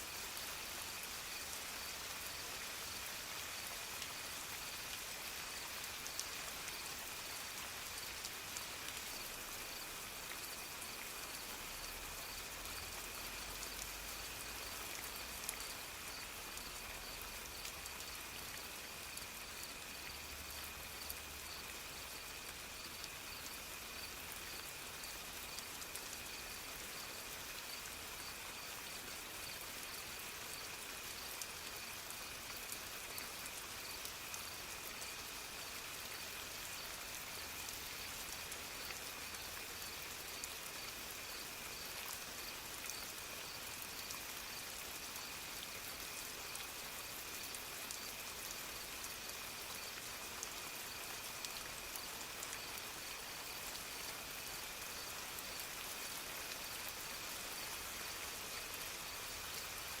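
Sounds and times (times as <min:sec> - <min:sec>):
soft rain: 0:00.0 - 1:00.0.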